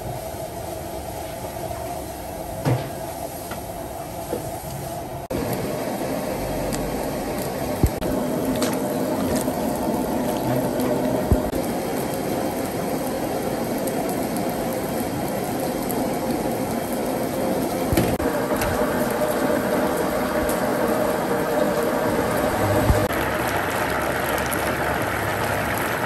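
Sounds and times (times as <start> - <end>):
steady watery sound: 0.0 - 26.0.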